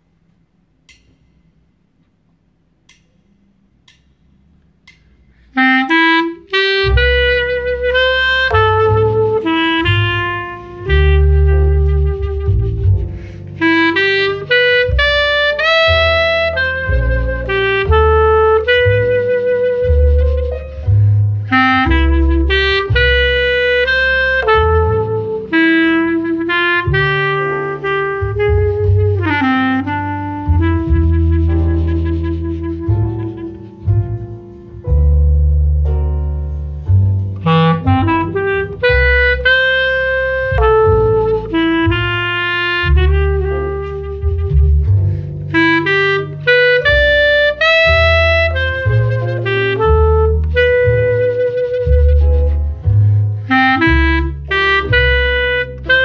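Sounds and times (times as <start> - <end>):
low bass accompaniment: 0.0 - 56.0
clarinet melody: 5.4 - 56.0.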